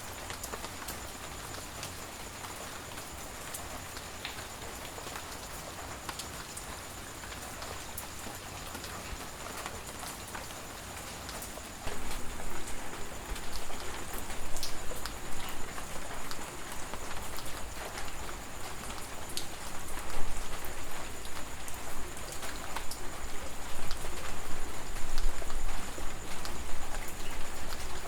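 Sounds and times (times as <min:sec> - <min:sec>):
rain pattering and dripping: 0:00.0 - 0:28.0.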